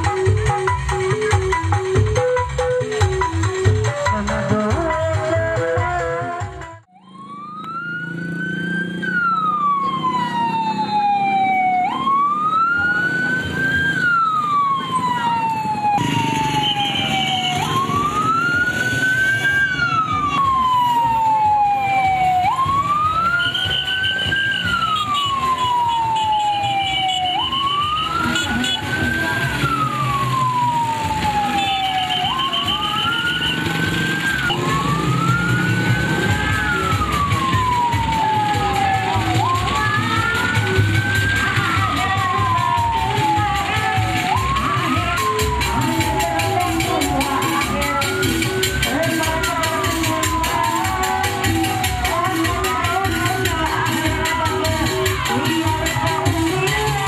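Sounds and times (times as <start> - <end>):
police siren wailing: 0.0 - 57.0.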